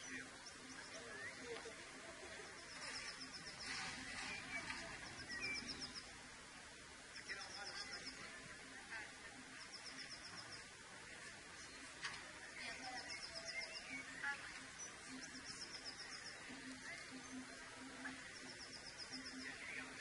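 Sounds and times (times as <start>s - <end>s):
bird chirps: 0.0s - 6.2s, 7.2s - 8.4s, 9.5s - 10.8s, 11.5s - 20.0s
faint background noise: 0.0s - 20.0s.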